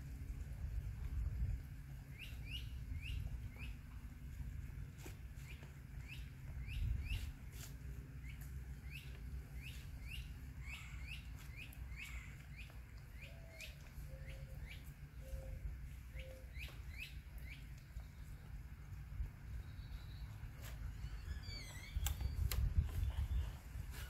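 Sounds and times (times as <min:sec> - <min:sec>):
steady low rumble: 0:00.0 - 0:24.0
bird chirping: 0:02.0 - 0:04.0, 0:05.4 - 0:18.6, 0:19.4 - 0:23.7.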